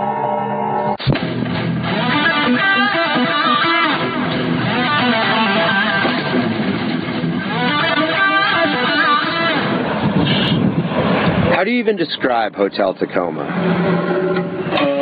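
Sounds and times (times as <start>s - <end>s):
electric guitar music: 0.0s - 11.5s, 13.4s - 15.0s.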